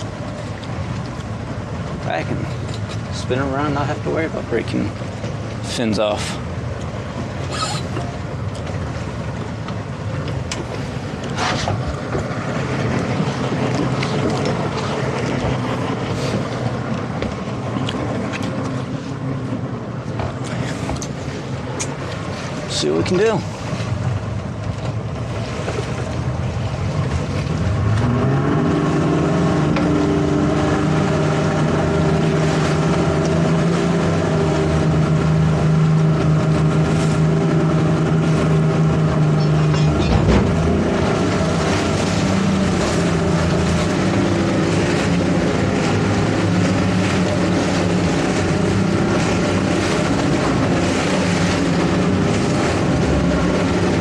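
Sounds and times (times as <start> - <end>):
outboard motors running hard: 0.0 - 54.0
wake rushing: 0.0 - 54.0.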